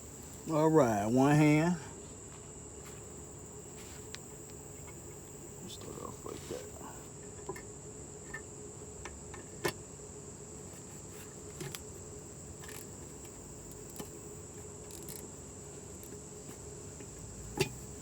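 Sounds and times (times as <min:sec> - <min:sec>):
steady high-pitched whine: 0:00.0 - 0:18.0.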